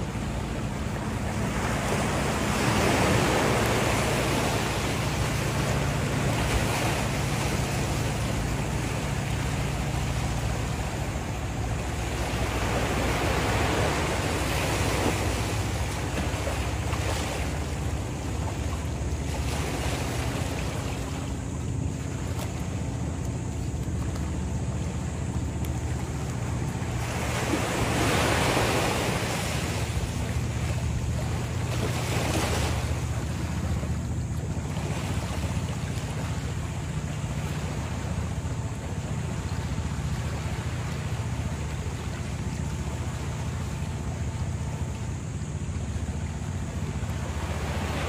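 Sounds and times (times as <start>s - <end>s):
steady low hum: 0.0s - 48.0s
waves washing onto sandy shore: 0.0s - 48.0s.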